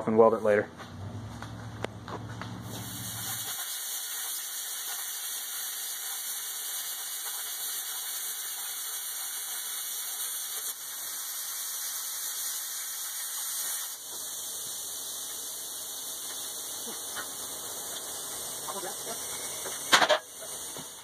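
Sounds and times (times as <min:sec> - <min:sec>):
plasma cutter hissing: 0:02.6 - 0:21.0.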